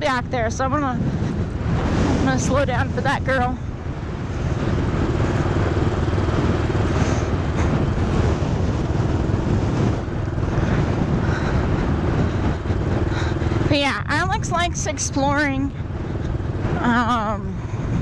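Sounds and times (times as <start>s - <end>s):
dirt bike engine running: 0.0s - 18.0s
wind rushing over microphone: 0.0s - 18.0s.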